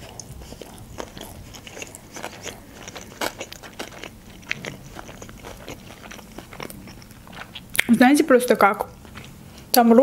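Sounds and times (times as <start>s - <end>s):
person chewing food: 0.0s - 7.9s, 8.8s - 9.8s.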